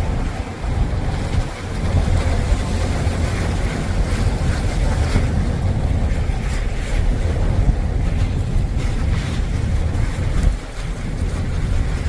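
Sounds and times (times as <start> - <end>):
waves breaking on shore: 0.0 - 12.0
wind buffeting microphone: 0.0 - 12.0.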